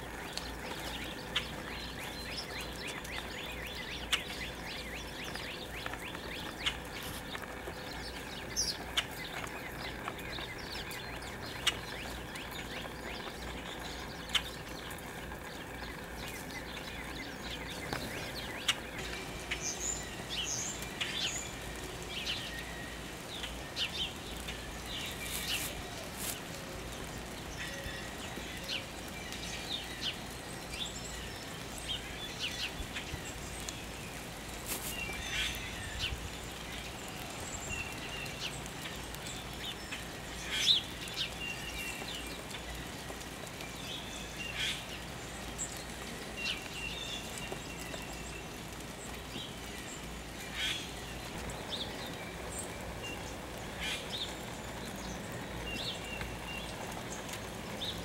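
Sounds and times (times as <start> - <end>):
small songbirds chirping: 0.0 - 58.0
steady outdoor hiss: 0.0 - 58.0.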